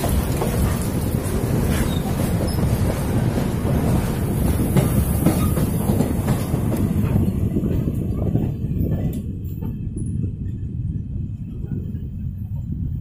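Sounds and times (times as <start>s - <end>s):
passing freight train rush: 0.0s - 13.0s
train wheels rumbling on rails: 0.0s - 13.0s.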